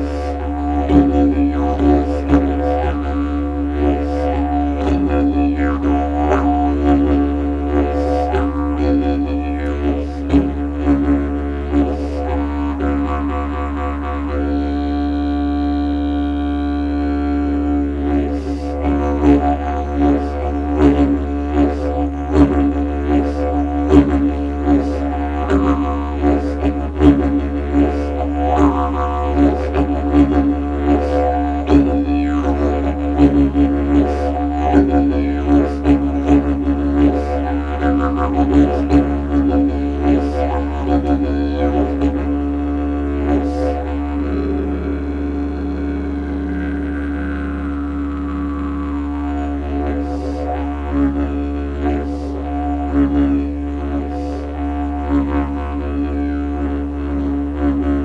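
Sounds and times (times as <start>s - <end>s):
didgeridoo drone: 0.0s - 58.0s.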